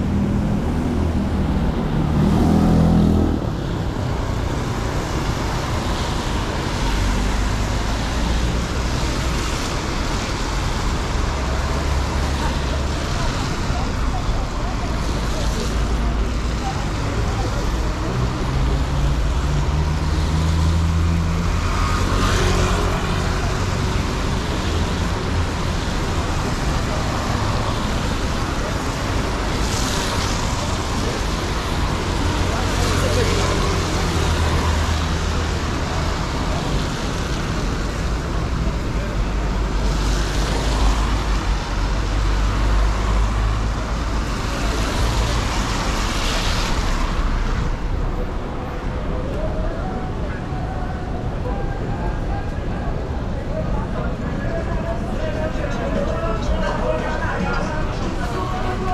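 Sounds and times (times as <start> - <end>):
low traffic engine hum: 0.0 - 58.9
tyres hissing on wet road: 0.2 - 51.4, 52.3 - 58.9.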